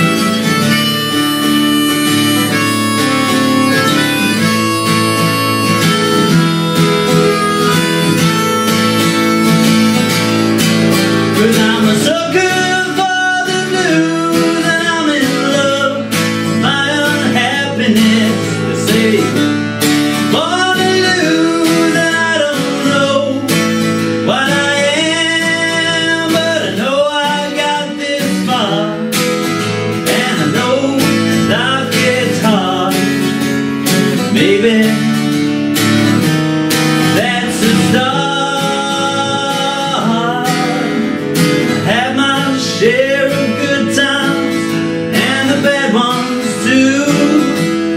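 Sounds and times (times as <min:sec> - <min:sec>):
man singing: 0:00.0 - 0:36.2, 0:36.8 - 0:47.9
strummed acoustic guitar: 0:00.0 - 0:47.9.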